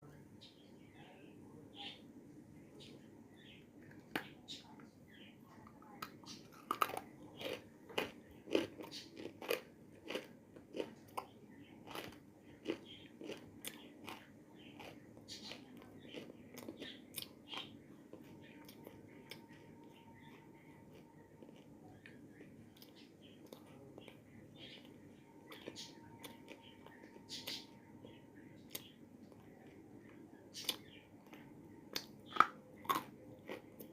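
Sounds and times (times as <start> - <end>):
clay chunks crunching when chewed: 5.8 - 27.8, 28.6 - 33.9.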